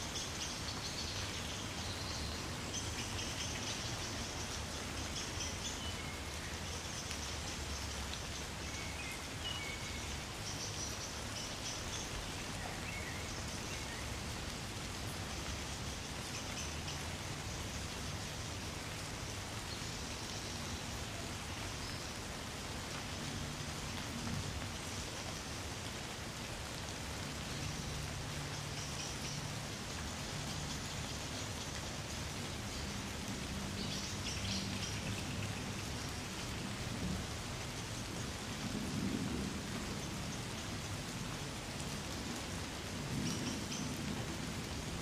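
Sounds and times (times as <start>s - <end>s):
gentle rain: 0.0s - 45.0s.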